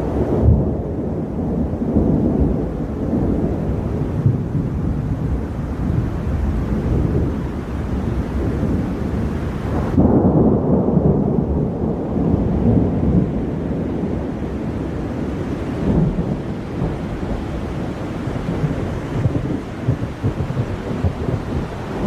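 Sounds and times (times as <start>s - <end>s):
deep storm rumble: 0.0s - 22.0s.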